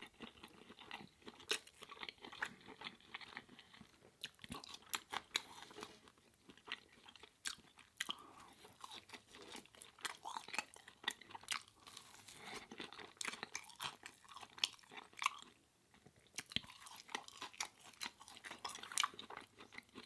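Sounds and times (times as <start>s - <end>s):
close chewing with crunches: 0.0s - 20.0s.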